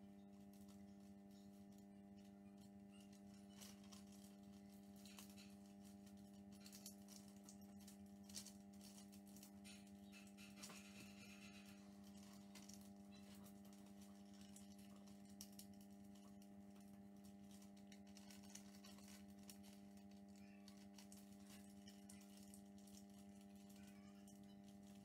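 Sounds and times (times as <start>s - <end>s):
low electrical hum: 0.0s - 25.0s
paper crackling: 0.2s - 25.0s.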